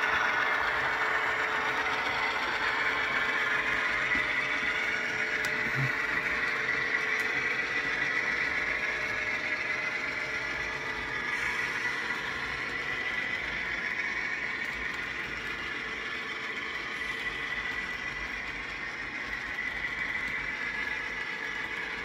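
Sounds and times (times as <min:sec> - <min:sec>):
high steady whine: 0:00.0 - 0:22.0
model train wheels on rails: 0:00.0 - 0:22.0.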